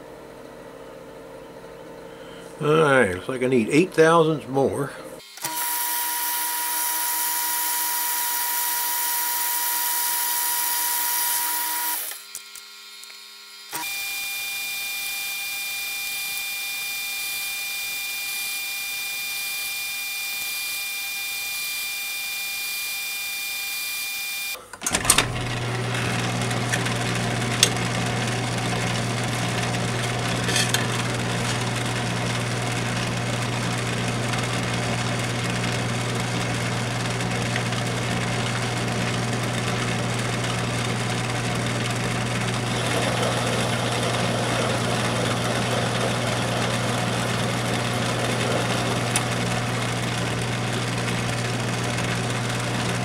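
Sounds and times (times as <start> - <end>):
metal lathe whining: 5.3 - 53.0.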